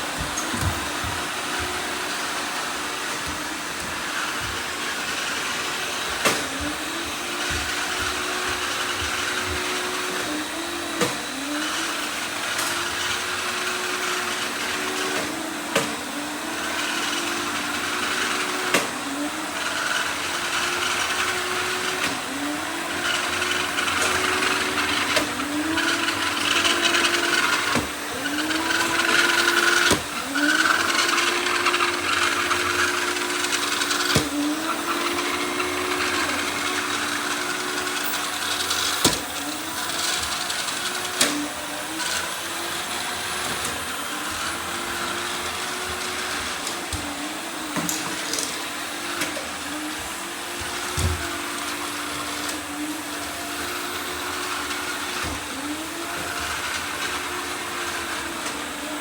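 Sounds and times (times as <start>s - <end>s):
robot vacuums whirring: 0.0s - 59.0s.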